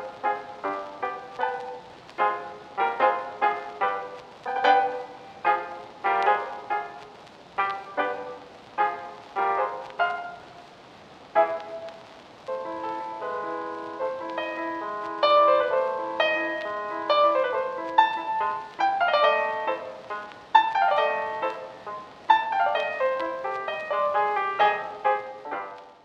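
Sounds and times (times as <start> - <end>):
lively piano music: 0.0 - 10.6, 11.4 - 26.0.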